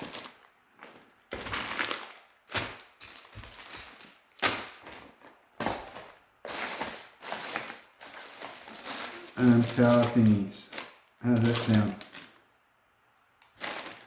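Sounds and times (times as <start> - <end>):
plastic bags rustling: 0.0 - 12.5, 13.4 - 14.0.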